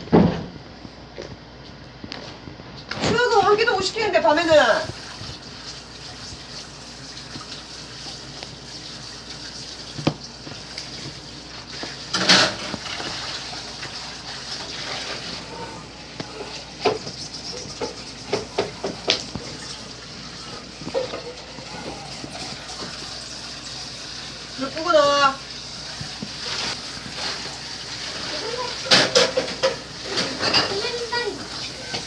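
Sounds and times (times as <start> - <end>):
water running into a sink: 4.3 - 32.0.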